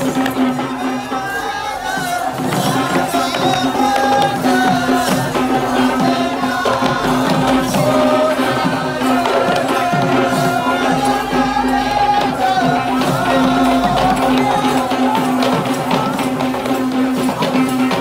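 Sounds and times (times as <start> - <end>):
drumming: 0.0 - 18.0
jingling percussion: 0.0 - 18.0.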